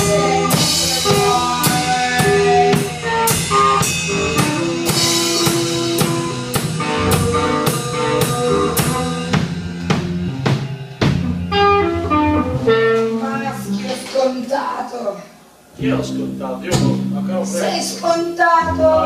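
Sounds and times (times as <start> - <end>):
guitar notes: 0.0 - 14.3, 15.7 - 19.0
drum kit beat: 0.0 - 14.4, 16.2 - 18.2
live rock band: 0.0 - 19.0.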